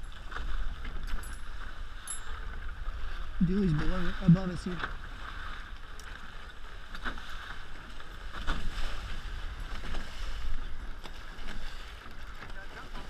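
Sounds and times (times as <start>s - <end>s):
water rushing along hulls: 0.0s - 13.0s.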